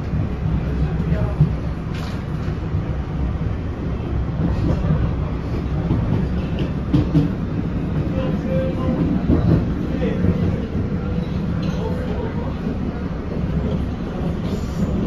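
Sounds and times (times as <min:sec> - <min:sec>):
train wheels and motors rumbling: 0:00.0 - 0:15.0.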